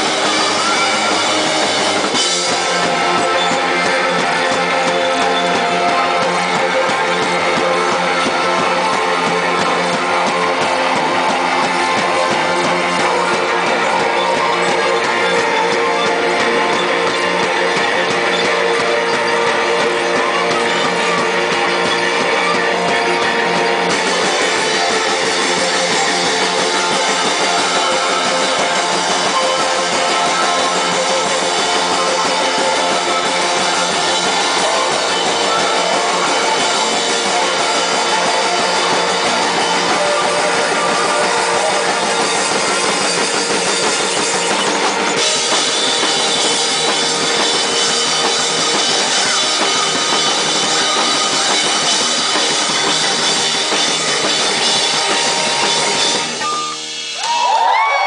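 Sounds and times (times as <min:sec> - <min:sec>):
drum kit: 0:00.0 - 0:58.0
live band music: 0:00.0 - 0:58.0.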